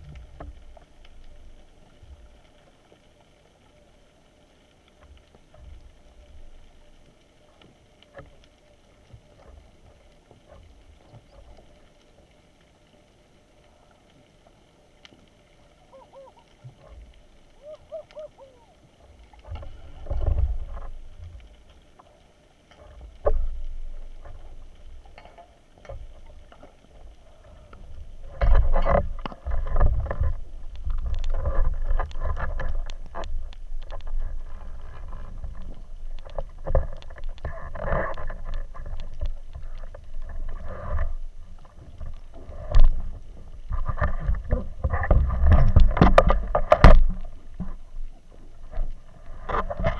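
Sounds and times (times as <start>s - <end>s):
water splashing and sloshing: 0.0s - 49.9s.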